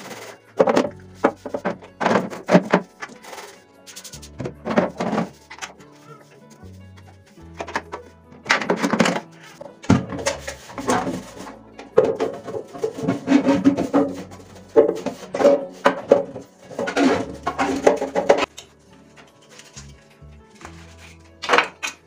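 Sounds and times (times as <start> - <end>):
kitchen items clattering: 0.0 - 22.0
soft background music: 0.0 - 22.0.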